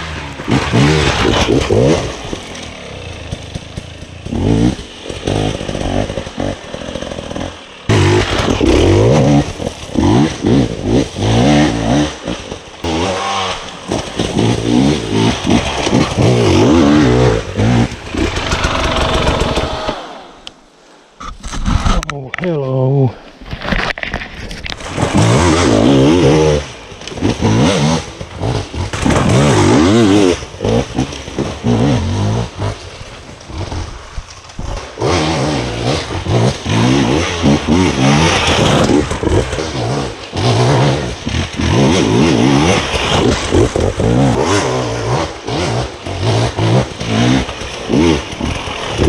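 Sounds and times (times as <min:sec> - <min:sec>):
dirt bike engine revving: 0:00.0 - 0:20.4, 0:24.8 - 0:49.0.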